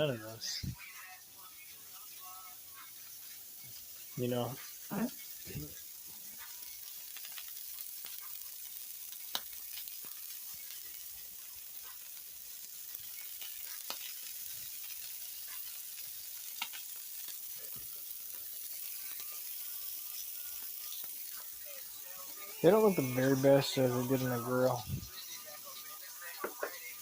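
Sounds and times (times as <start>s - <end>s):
hamburger patties sizzling in skillet: 0.0s - 27.0s.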